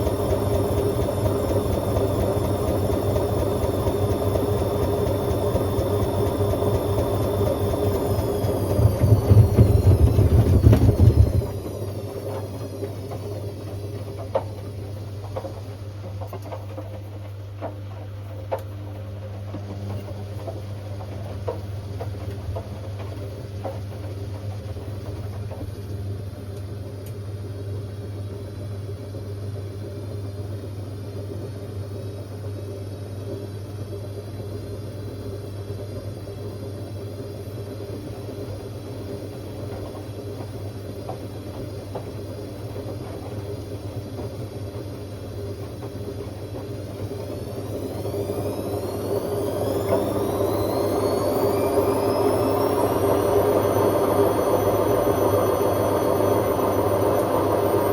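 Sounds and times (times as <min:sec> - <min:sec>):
washing machine loud low drone: 0:00.0 - 0:57.9
washing machine low hum: 0:00.0 - 0:57.9.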